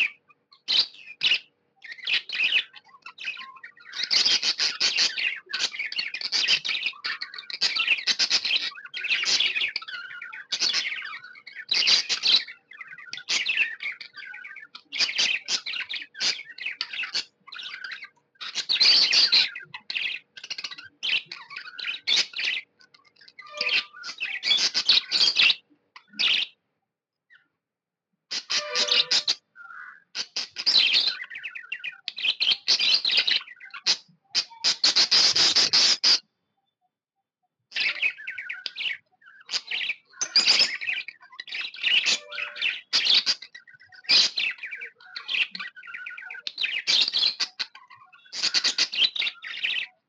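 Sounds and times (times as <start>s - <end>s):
budgerigar chirping: 0.0s - 26.5s, 28.3s - 36.2s, 37.8s - 50.0s.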